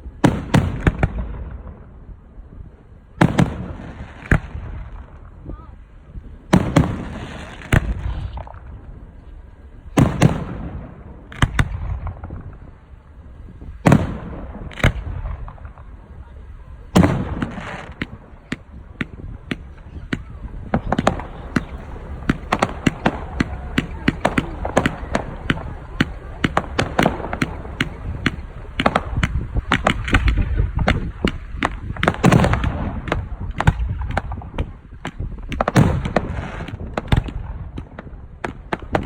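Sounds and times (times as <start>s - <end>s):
firework shells booming: 0.0s - 2.3s, 3.0s - 39.0s
firework crackling: 0.0s - 39.0s
rapid sharp firework bangs: 0.0s - 39.0s.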